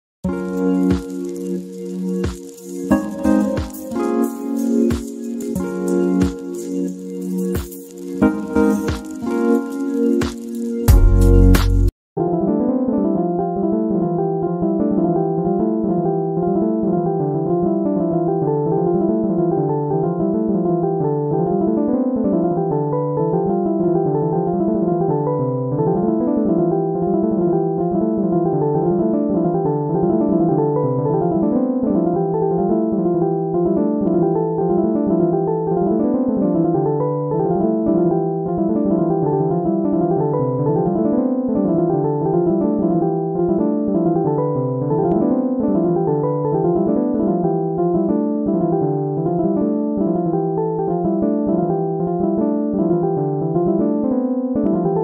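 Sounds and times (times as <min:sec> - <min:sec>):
piano arpeggios: 0:00.2 - 0:55.0.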